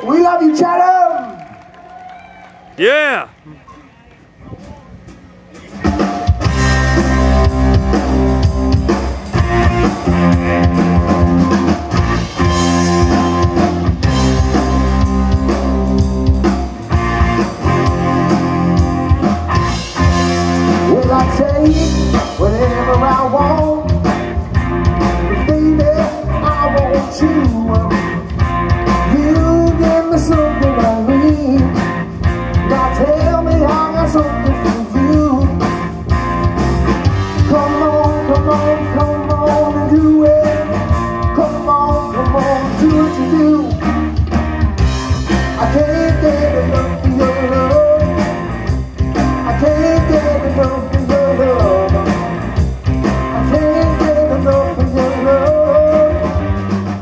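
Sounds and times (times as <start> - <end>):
live rock band: 0.0 - 3.3, 4.3 - 57.0.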